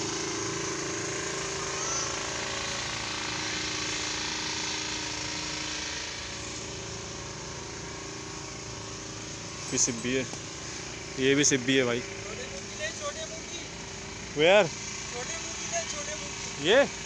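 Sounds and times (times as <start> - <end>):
motor droning: 0.0 - 17.0.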